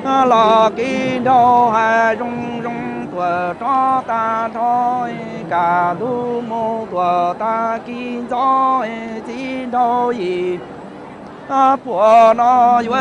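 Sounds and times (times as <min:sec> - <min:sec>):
person chanting folk song: 0:00.0 - 0:10.8, 0:11.4 - 0:13.0.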